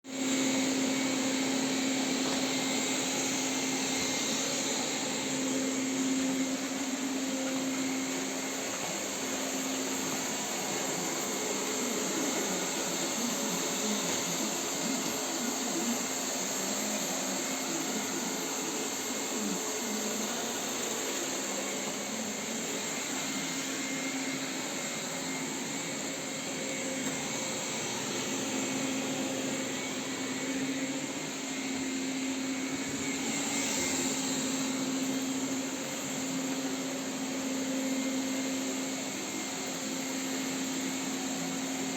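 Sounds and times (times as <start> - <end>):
robot vacuum cleaner whirring: 0.0 - 41.9.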